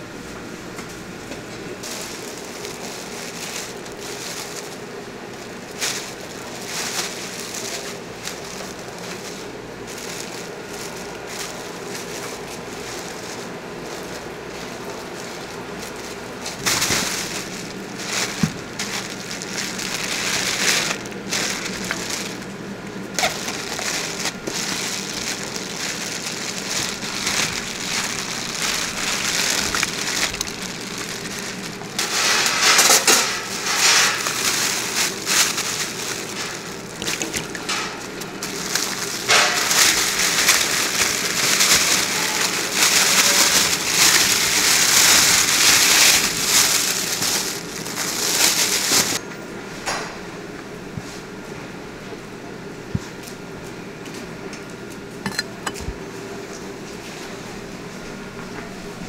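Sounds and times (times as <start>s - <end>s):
steady background hum: 0.0s - 59.0s
plastic bag crinkling: 1.7s - 49.2s.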